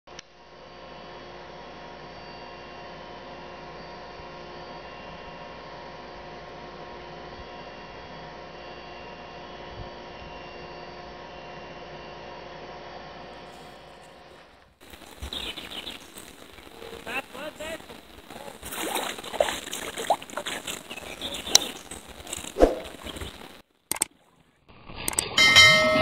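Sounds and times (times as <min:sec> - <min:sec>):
steady hum with tones: 0:00.3 - 0:24.1.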